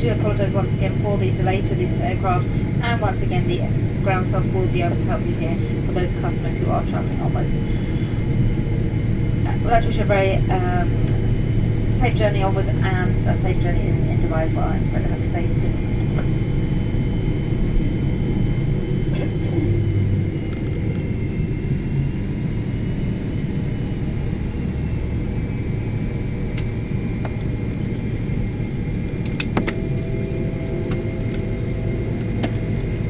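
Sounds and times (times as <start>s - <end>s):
airliner cabin rumble: 0.0s - 33.0s
faint steady whine: 0.0s - 33.0s.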